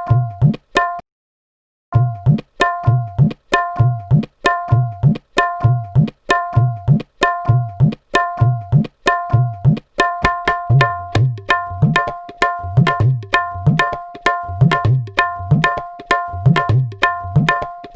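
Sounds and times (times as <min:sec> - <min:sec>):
tabla rhythm: 0:00.0 - 0:01.0, 0:02.0 - 0:17.9.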